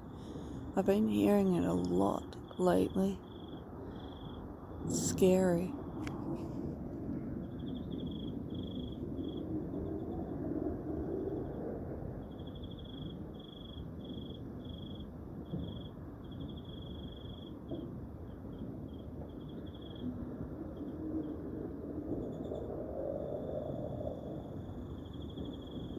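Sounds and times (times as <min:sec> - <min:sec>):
insects chirping trills: 0:00.0 - 0:06.1, 0:07.4 - 0:10.5, 0:11.1 - 0:17.8, 0:18.5 - 0:25.9.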